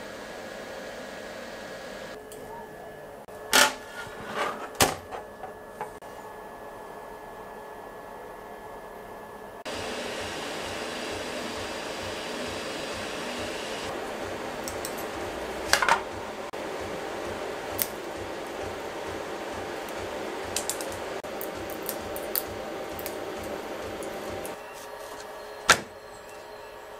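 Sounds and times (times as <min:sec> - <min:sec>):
fan whirring: 0:00.0 - 0:26.9.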